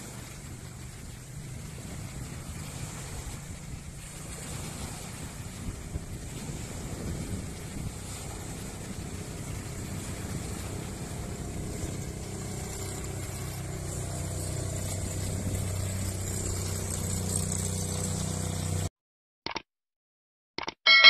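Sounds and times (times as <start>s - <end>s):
racing boat engine: 0.0s - 18.9s
wind and spray hiss: 0.0s - 18.9s.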